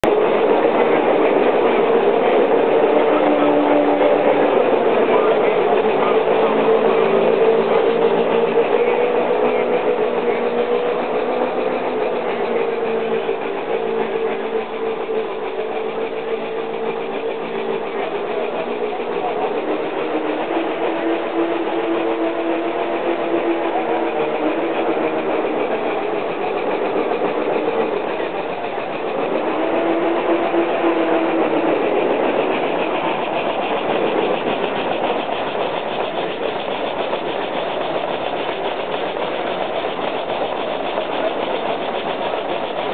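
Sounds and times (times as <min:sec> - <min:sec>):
chatter of voices: 0:00.0 - 0:42.9
model steam engine running: 0:00.0 - 0:42.9.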